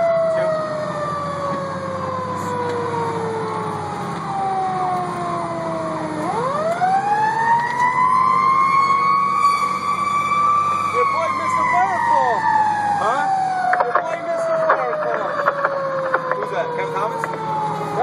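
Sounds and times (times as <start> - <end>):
fire engine siren: 0.0 - 18.0
truck engine drone: 0.0 - 18.0.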